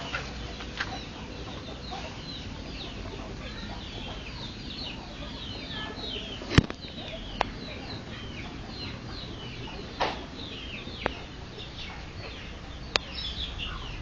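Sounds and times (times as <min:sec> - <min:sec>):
birds chirping: 0:00.0 - 0:14.0
outdoor background noise: 0:00.0 - 0:14.0.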